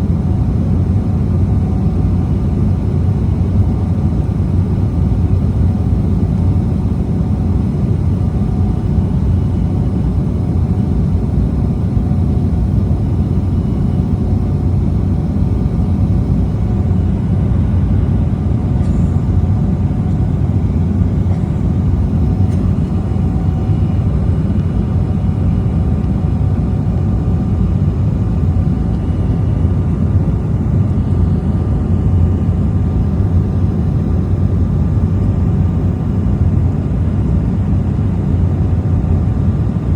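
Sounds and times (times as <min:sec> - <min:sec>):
jet cabin rumble: 0:00.0 - 0:39.9.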